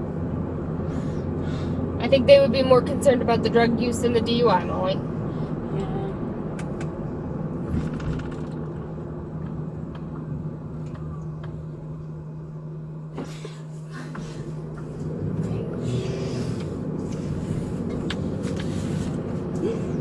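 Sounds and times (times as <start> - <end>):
car engine and road drone: 0.0 - 20.0
constant hum: 0.0 - 20.0.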